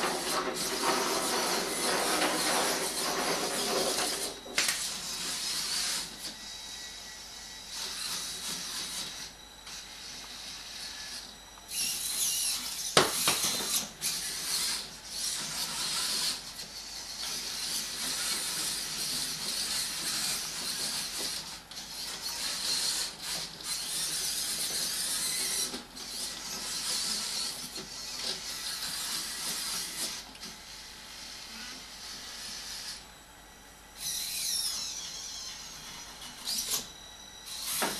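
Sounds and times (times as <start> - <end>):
robot drive motors whirring: 0.0 - 33.0, 34.0 - 37.9.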